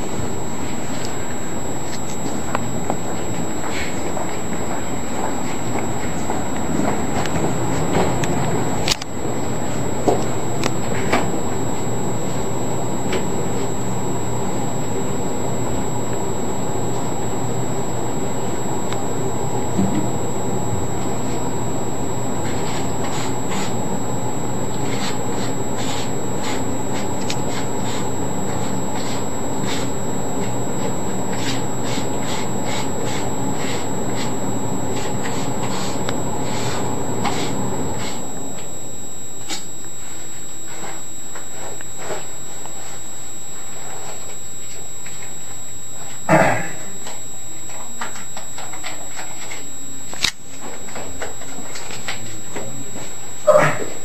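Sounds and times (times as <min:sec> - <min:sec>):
mechanical drone: 0:00.0 - 0:54.0.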